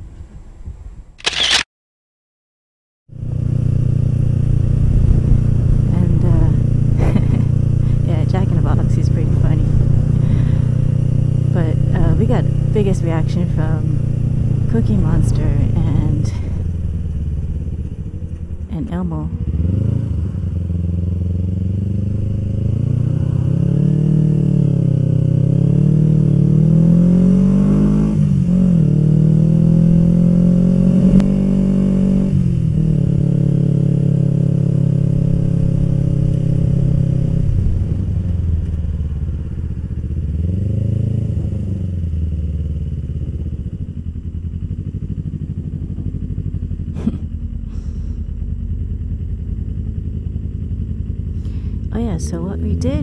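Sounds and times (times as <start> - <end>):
motorcycle engine revving: 3.1 - 53.0.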